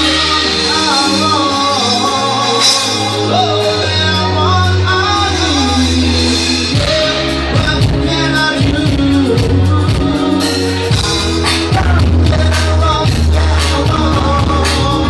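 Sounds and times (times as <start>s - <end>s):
band music: 0.0s - 15.0s
bass: 0.0s - 15.0s
drums: 0.0s - 15.0s
person singing: 0.0s - 15.0s.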